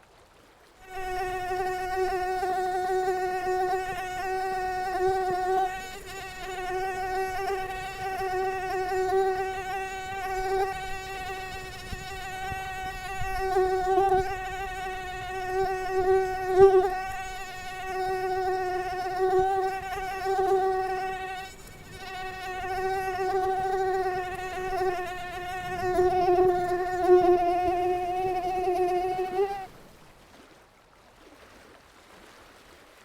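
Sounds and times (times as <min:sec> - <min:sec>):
mosquito whining buzz: 0:00.8 - 0:29.8.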